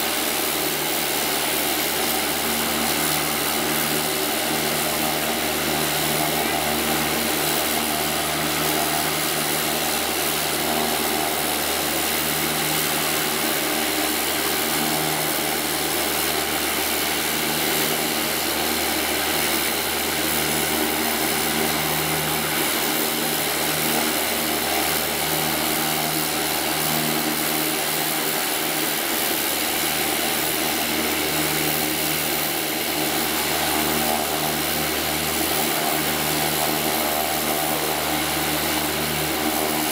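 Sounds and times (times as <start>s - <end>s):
propeller drone: 0.0s - 39.9s
turbine whine: 0.0s - 39.9s.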